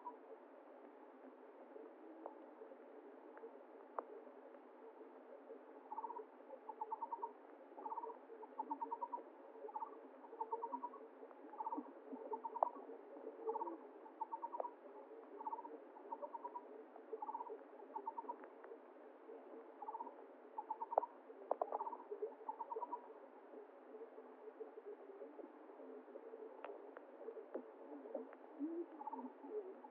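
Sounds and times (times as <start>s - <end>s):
flowing water murmur: 0.0s - 29.9s.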